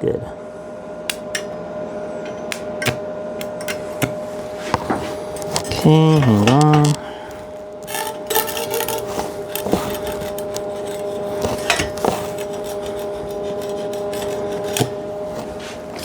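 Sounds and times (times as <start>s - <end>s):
electrical hum: 0.0s - 16.0s
metal tubing and tools clicking: 1.1s - 1.6s, 2.2s - 16.0s.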